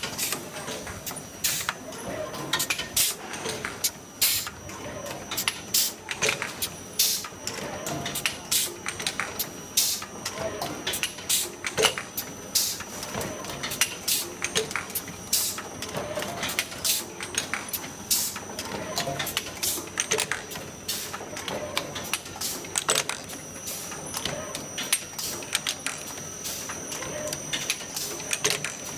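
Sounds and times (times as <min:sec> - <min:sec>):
machine clattering clicks: 0:00.0 - 0:28.9.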